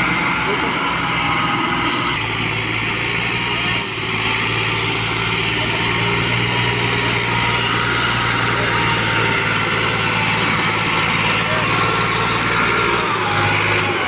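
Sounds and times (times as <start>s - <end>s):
diesel tractor engine under load: 0.0s - 14.0s.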